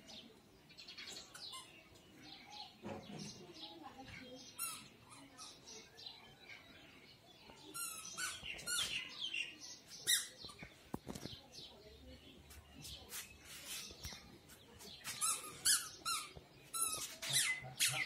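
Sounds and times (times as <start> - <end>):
small birds chirping and squawking: 0.0 - 18.0.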